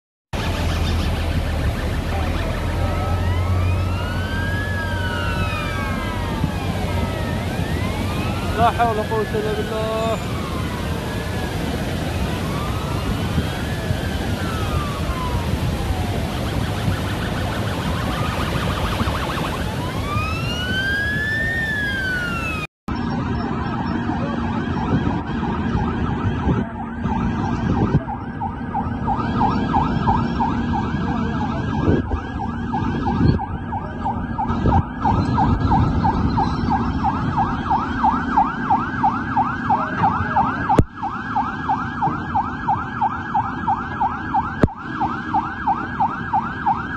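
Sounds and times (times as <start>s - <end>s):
emergency vehicle siren: 0.3s - 46.9s
floodwater rushing: 0.4s - 46.9s.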